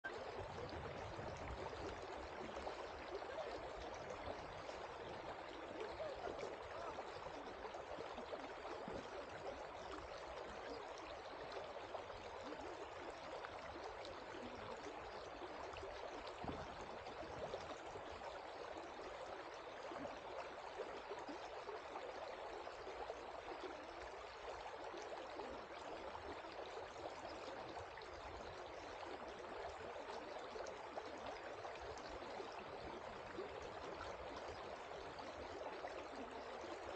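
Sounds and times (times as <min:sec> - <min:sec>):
river water flowing over rocks: 0:00.1 - 0:36.9.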